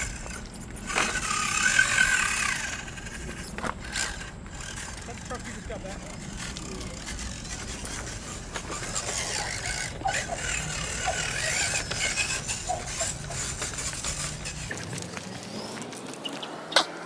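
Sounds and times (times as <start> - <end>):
rc car motor whining and rattling: 0.0 - 17.0.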